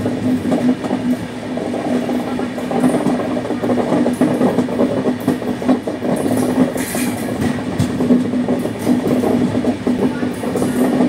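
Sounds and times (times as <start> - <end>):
train wheels rumbling on rails: 0.0 - 11.0
wheel clacks: 0.0 - 11.0.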